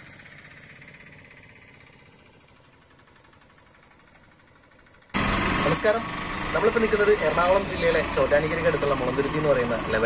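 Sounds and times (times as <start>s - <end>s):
faint motor rattling: 0.0s - 10.0s.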